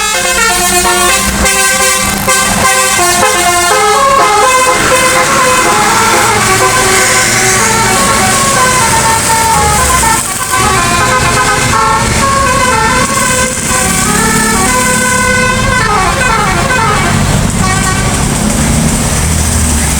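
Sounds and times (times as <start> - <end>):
musical air horn playing a tune: 0.0 - 18.2.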